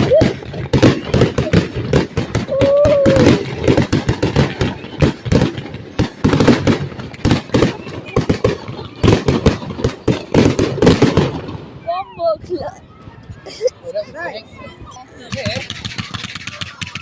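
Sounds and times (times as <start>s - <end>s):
fireworks bangs and crackling: 0.0s - 13.8s, 14.4s - 17.0s.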